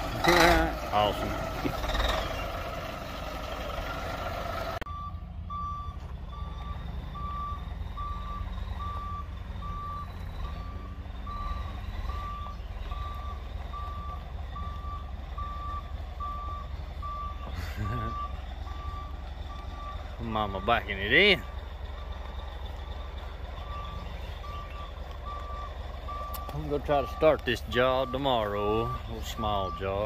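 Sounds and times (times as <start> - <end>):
diesel engine running: 0.0 - 30.0
truck backup alarm beeping: 4.6 - 30.0.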